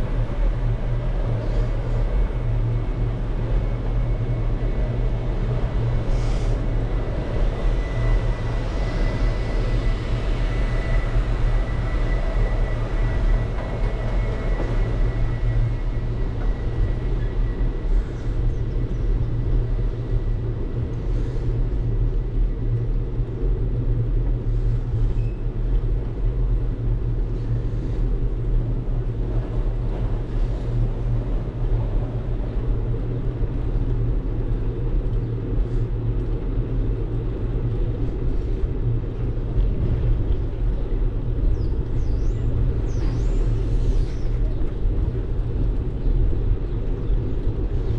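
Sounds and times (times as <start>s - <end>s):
bicycle tyres rolling on asphalt: 0.0s - 47.9s
wind buffeting microphone: 0.0s - 47.9s.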